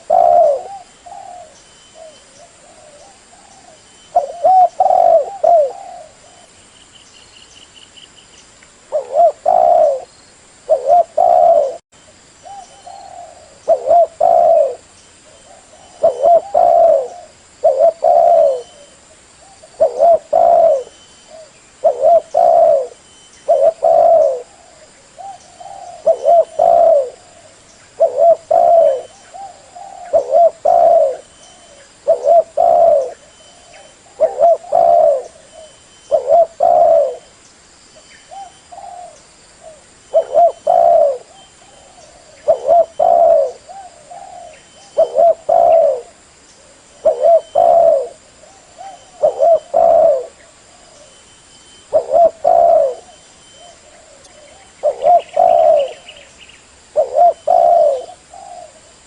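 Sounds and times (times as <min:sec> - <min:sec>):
dove cooing: 0:00.0 - 0:06.6, 0:08.8 - 0:10.1, 0:10.7 - 0:11.8, 0:12.4 - 0:37.3, 0:38.3 - 0:51.2, 0:51.8 - 0:56.3, 0:56.9 - 0:59.0.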